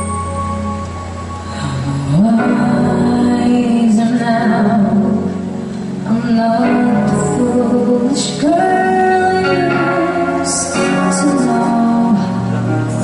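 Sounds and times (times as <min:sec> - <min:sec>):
band playing: 0:00.0 - 0:05.7, 0:06.3 - 0:13.0
person singing lead vocals: 0:01.4 - 0:13.0.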